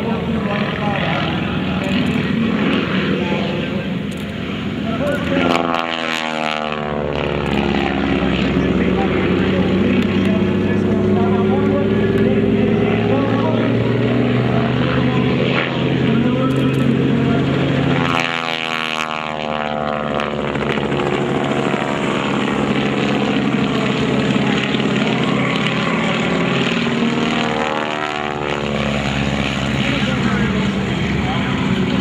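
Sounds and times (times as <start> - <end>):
biplane engine and propeller droning: 0.0 - 32.0.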